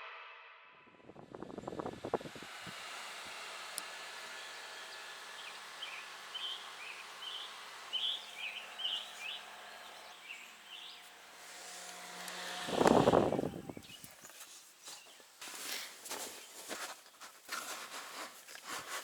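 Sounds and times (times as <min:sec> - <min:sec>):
faint steady background hum: 0:01.2 - 0:19.0
small birds chirping: 0:02.4 - 0:17.8.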